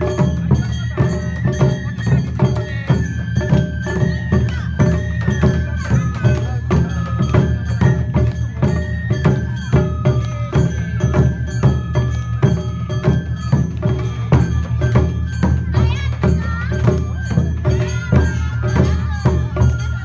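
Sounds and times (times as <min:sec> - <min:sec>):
drums and percussion beat: 0:00.0 - 0:20.0.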